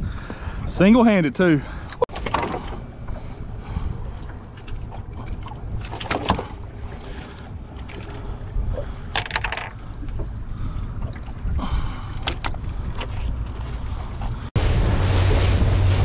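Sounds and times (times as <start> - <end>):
low rumble of wind and water: 0.0 - 16.0.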